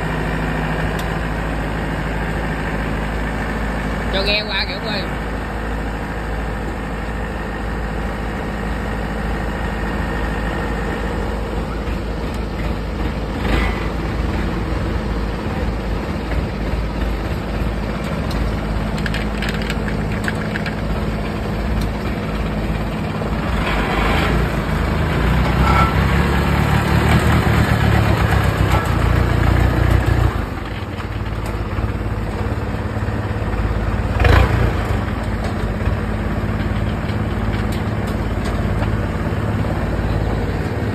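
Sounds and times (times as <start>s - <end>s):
combine harvester diesel engine: 0.0s - 40.9s.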